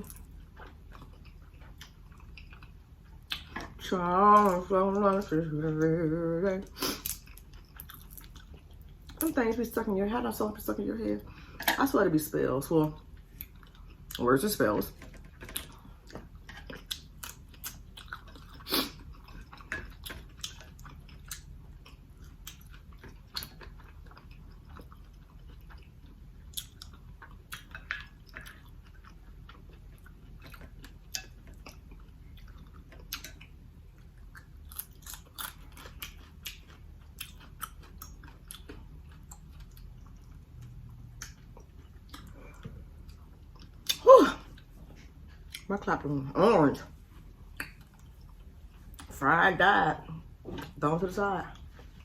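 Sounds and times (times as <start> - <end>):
person chewing food: 0.0 - 6.0, 6.6 - 9.2, 12.9 - 45.7, 46.9 - 49.2.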